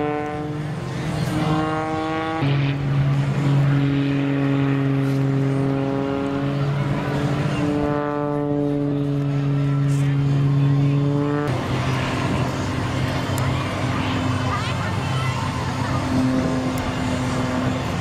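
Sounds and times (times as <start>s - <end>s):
propeller plane engine buzzing: 0.0s - 18.0s.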